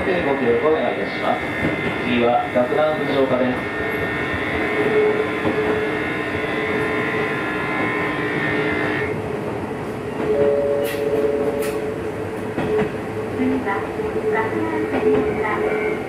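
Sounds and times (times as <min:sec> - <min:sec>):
train running noise: 0:00.0 - 0:16.0
rail clicks: 0:00.1 - 0:16.0.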